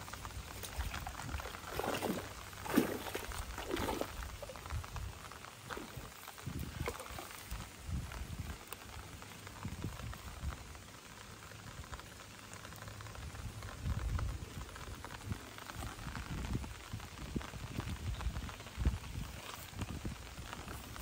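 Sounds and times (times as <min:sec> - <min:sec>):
light rain on water and leaves: 0:00.0 - 0:21.0.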